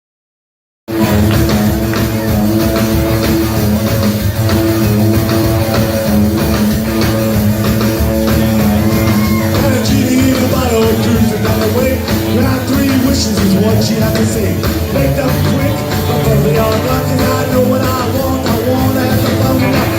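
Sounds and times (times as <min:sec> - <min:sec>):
electric guitar: 0:00.9 - 0:19.9
rockabilly band playing: 0:00.9 - 0:19.9.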